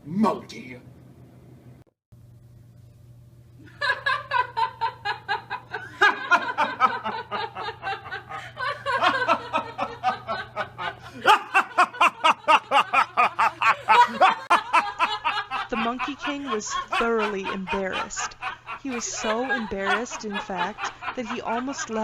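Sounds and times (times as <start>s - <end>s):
people laughing hard together: 3.6s - 22.0s.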